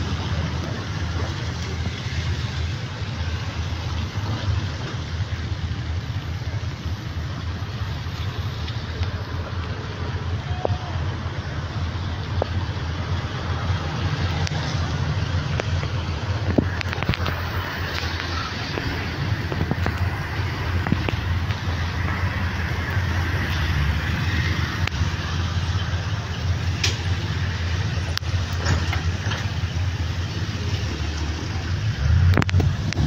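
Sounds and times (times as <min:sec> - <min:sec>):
steady rain hiss: 0:00.0 - 0:33.0
traffic on wet street: 0:00.0 - 0:33.0.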